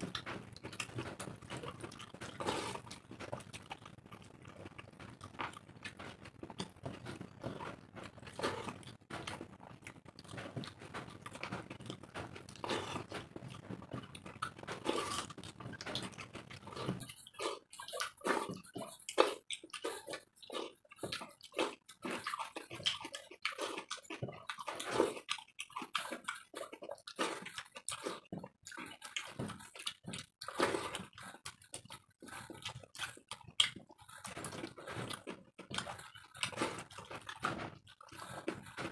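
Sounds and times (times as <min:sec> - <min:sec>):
wet chewing and mouth noises: 0:00.0 - 0:38.9.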